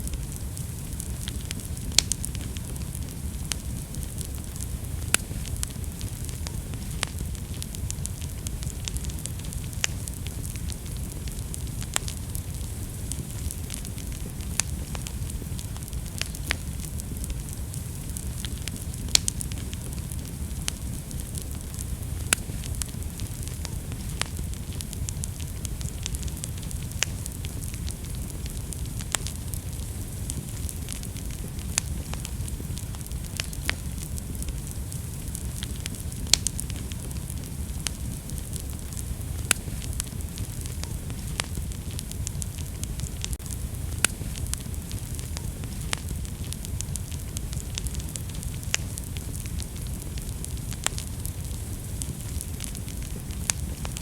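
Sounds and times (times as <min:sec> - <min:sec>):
fire rumbling and hissing: 0:00.0 - 0:54.0
logs crackling and popping: 0:00.0 - 0:54.0.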